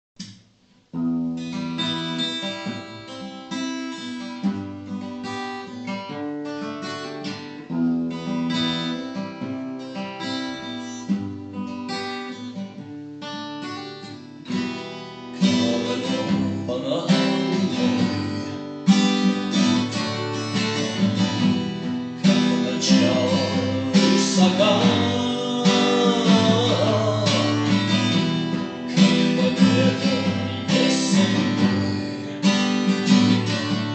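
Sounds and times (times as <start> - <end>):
acoustic guitar instrumental music: 0.2 - 33.9.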